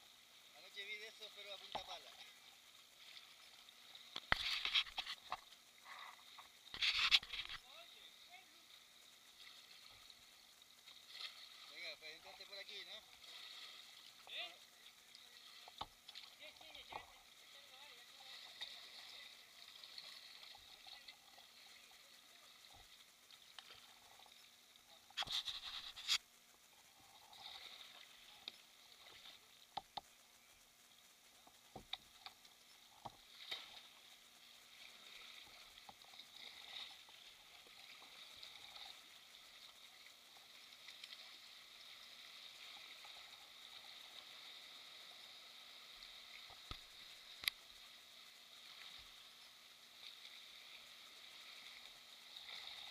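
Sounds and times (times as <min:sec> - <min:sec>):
water splashing: 0:00.0 - 0:26.2, 0:26.8 - 0:30.0, 0:31.3 - 0:52.9
water lapping around hull: 0:00.0 - 0:30.2, 0:30.9 - 0:52.9.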